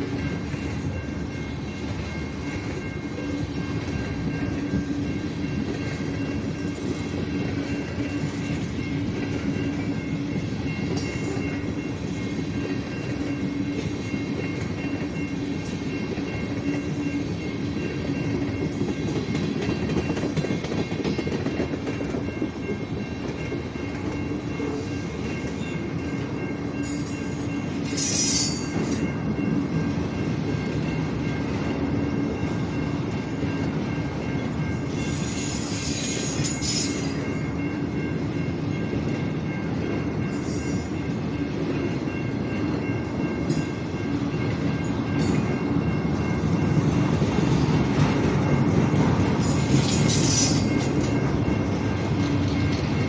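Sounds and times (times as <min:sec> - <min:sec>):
freight train rolling on rails: 0:00.0 - 0:53.0.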